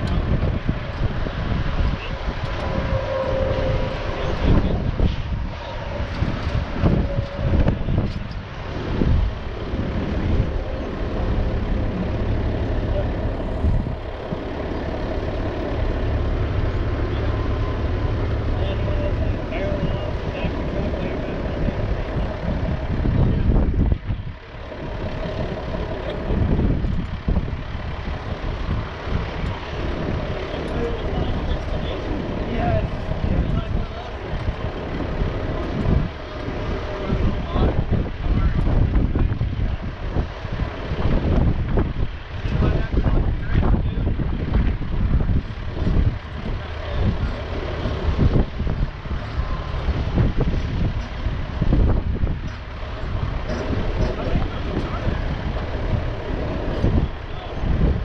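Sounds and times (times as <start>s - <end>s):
heavy vehicle engine idling: 0.0s - 58.0s
wind rumbling on microphone: 0.0s - 58.0s.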